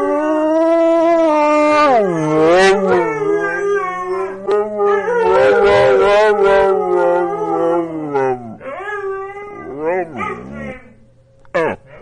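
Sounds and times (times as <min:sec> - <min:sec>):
dog howling: 0:00.0 - 0:11.2.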